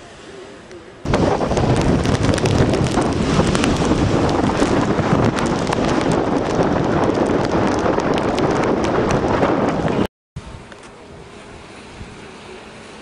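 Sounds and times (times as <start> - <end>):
surf breaking on shore: 0.0 - 13.0
strong wind on microphone: 1.0 - 12.2.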